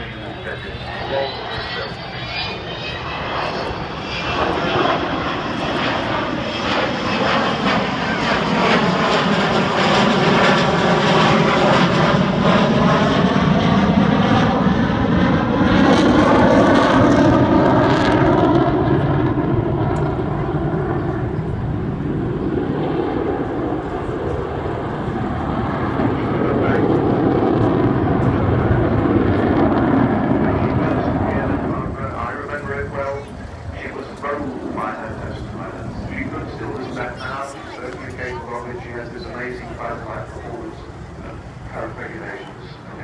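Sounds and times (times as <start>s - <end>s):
jet aircraft passing low: 0.0s - 43.0s.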